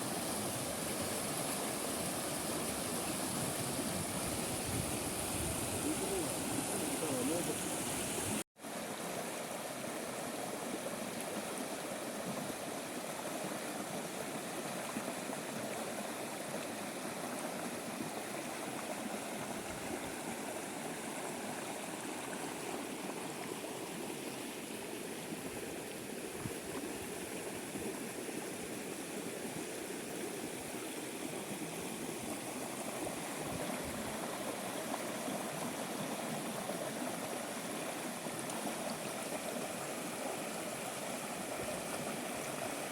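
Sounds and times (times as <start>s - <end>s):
water rushing: 0.0s - 42.9s.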